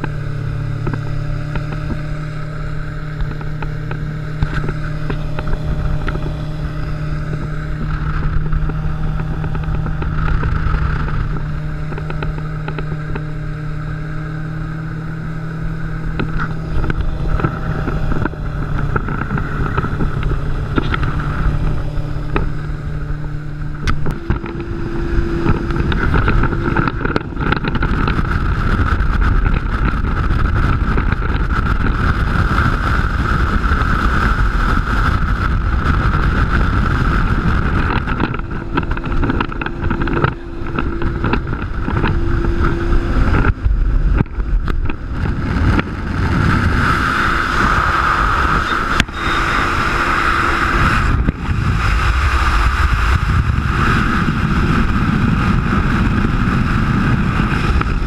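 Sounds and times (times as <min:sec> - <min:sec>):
outboard engine drone: 0:00.0 - 0:58.0
wind buffeting microphone: 0:00.0 - 0:58.0.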